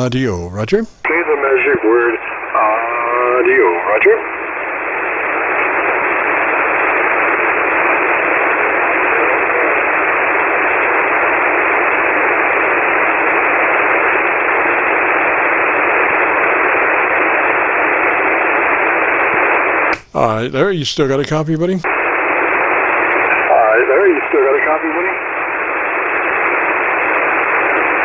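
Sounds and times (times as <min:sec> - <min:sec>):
radio receiver hiss: 0:00.0 - 0:28.0.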